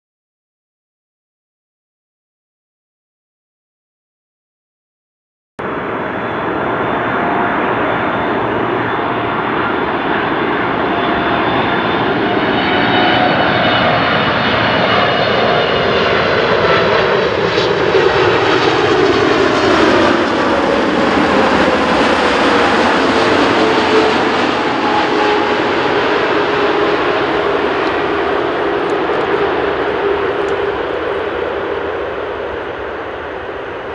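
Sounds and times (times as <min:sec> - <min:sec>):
jet engines passing close: 0:05.6 - 0:33.9.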